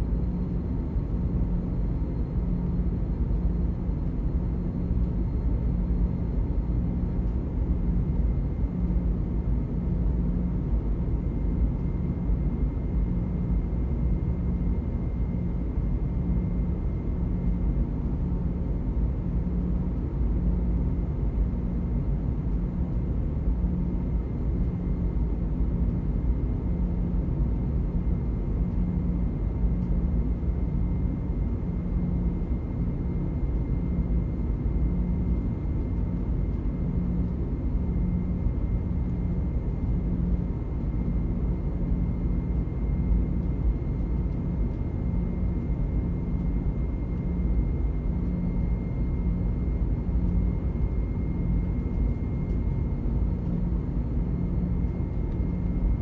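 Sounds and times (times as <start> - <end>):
faint thin whine: 0.0 - 56.0.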